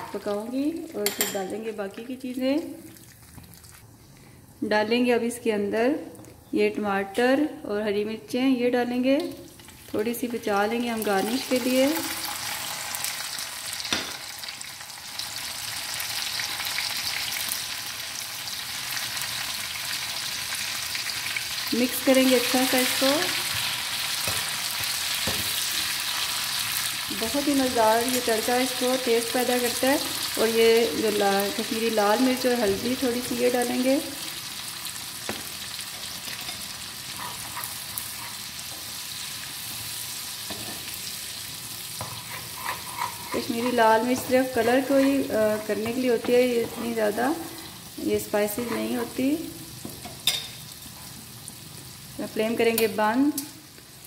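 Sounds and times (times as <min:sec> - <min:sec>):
vegetables sizzling in hot ghee: 0:09.2 - 0:54.0.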